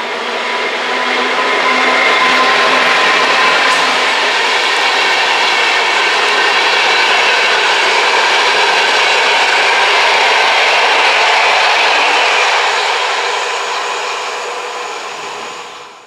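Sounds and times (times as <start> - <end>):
train coaches rolling past: 0.0 - 16.0.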